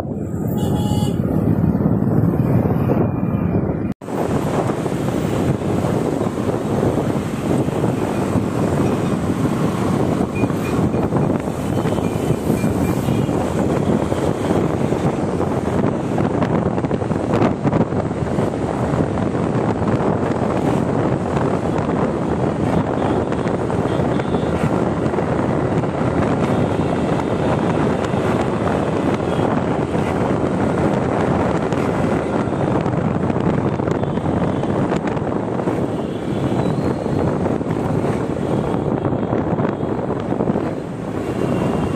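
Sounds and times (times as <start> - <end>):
road noise: 0.0 - 41.9
wind rush over microphone: 0.0 - 41.9.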